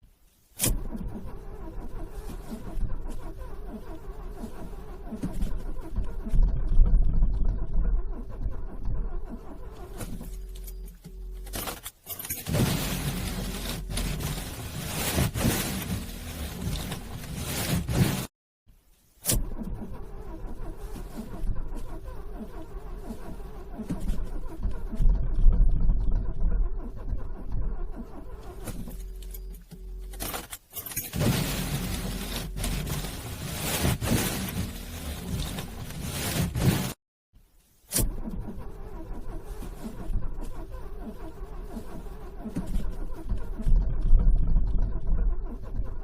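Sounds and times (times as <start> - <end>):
car engine cranking: 0.6 - 18.3, 19.2 - 37.0, 37.9 - 46.0.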